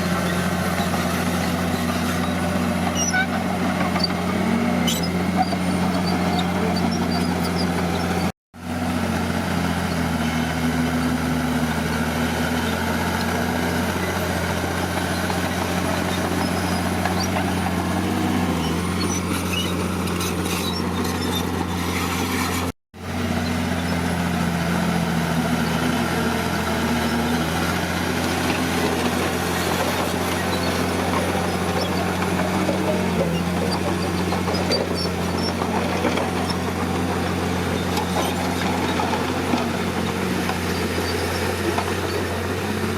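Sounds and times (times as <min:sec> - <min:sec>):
earthmoving diesel engine working: 0:00.0 - 0:42.9.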